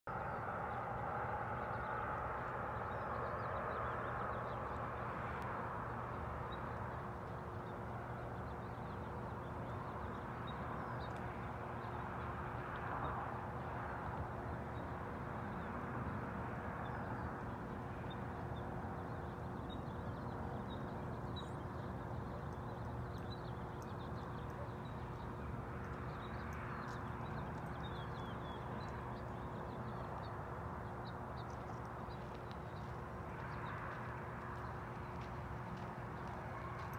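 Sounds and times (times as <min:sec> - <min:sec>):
outdoor hum and rumble: 0:00.1 - 0:36.9.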